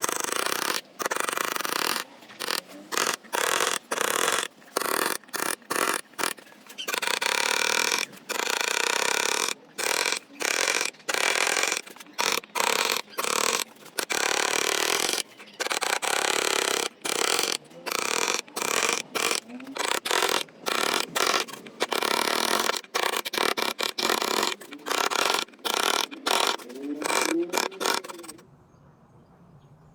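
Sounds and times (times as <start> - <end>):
power saw cutting wood: 0.0 - 28.4.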